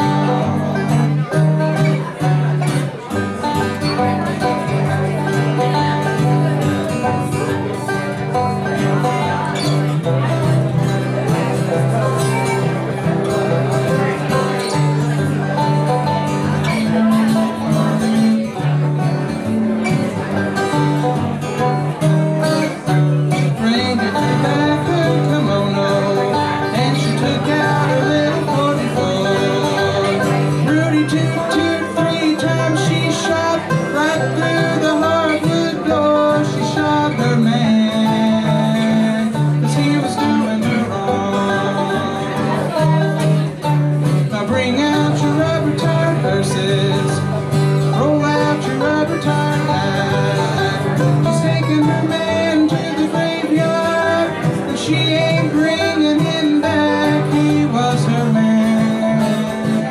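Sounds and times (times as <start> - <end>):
plucked banjo notes: 0.0 - 59.9
strummed acoustic guitar: 0.0 - 59.9.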